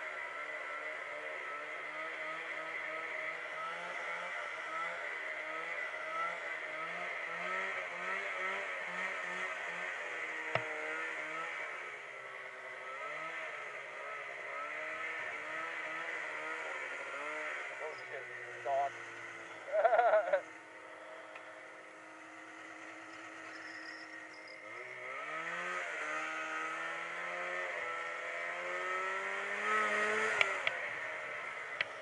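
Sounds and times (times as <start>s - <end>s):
snowmobile engine running: 0.0s - 32.0s.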